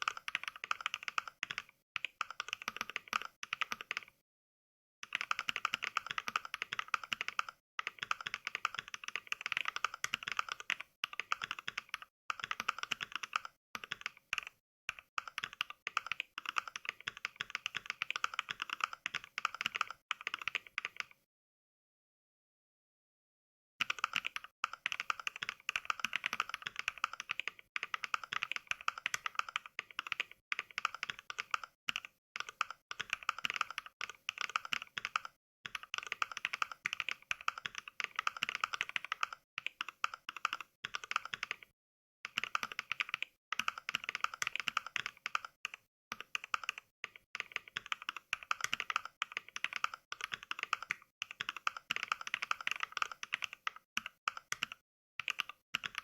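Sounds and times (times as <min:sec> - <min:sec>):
mechanical keyboard typing clicks: 0:00.0 - 0:04.1, 0:05.0 - 0:21.2, 0:23.8 - 0:41.7, 0:42.3 - 0:56.0.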